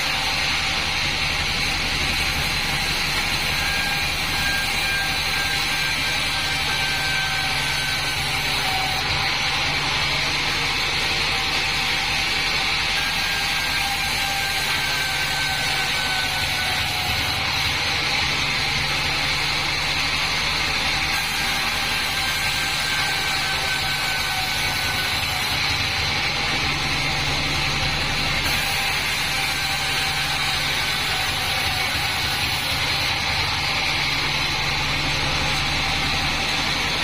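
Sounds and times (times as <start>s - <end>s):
sawmill motor hum and hiss: 0.0s - 37.0s.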